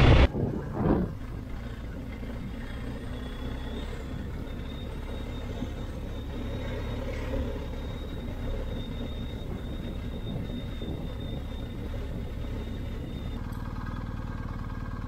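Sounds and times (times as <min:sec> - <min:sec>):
motorcycle engine rumble: 0:00.0 - 0:15.0
wind and road noise: 0:00.0 - 0:15.0.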